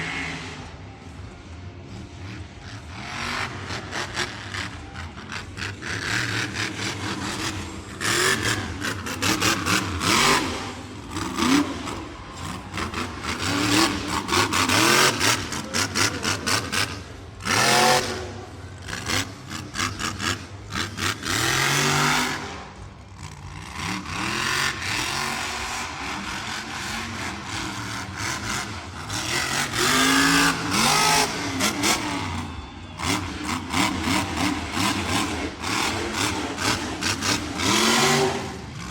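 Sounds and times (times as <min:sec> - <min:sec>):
truck engine revving hard: 0:00.0 - 0:00.7, 0:01.9 - 0:38.9.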